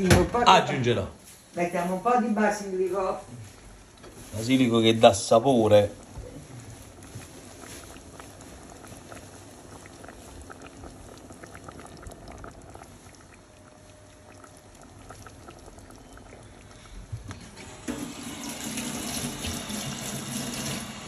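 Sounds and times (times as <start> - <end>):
stew bubbling in a pot: 3.4 - 21.0.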